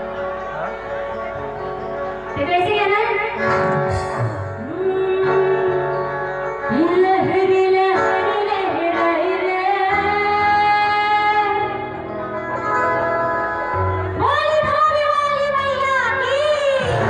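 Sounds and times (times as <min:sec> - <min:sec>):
instrumental accompaniment: 0:00.0 - 0:17.0.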